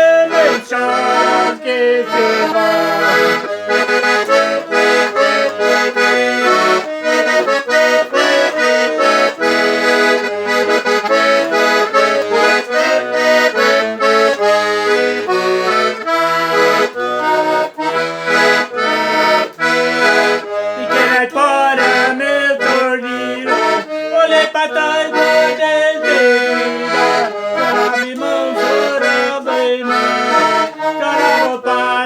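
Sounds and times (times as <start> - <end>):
accordion melody: 0.0 - 32.0.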